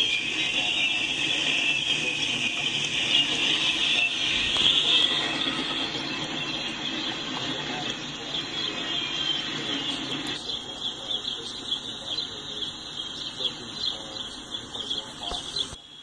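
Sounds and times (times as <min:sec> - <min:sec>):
high wavering squeal: 0:00.0 - 0:16.0
train rolling past: 0:00.0 - 0:16.0.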